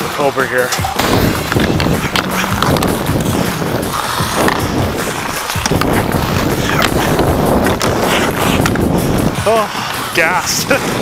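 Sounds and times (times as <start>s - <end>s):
hockey sticks and puck clicking: 0.6s - 11.0s
skate blades scraping on ice: 0.8s - 11.0s.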